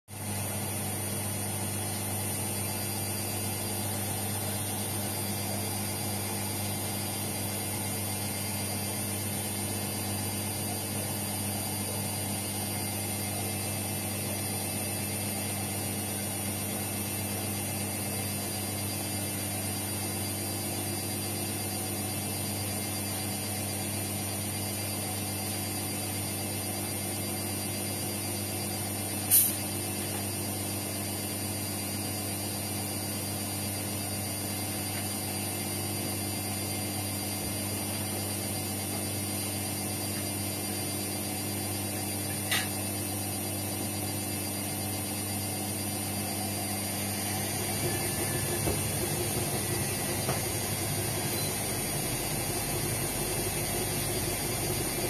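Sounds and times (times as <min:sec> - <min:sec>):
washing machine humming: 0:00.1 - 0:55.0.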